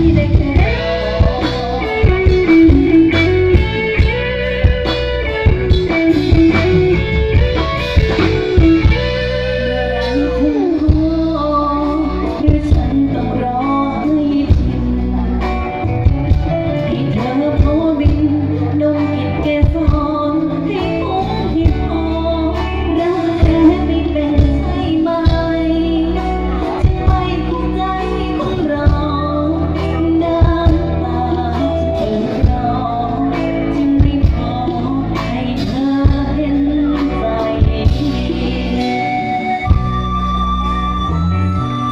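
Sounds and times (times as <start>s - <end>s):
person singing: 0.0s - 40.1s
band playing through loudspeakers: 0.0s - 41.9s.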